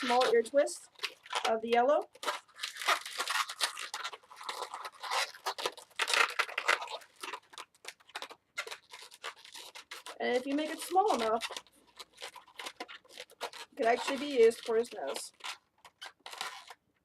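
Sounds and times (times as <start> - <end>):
balloons rubbing and twisting: 0.0 - 16.9.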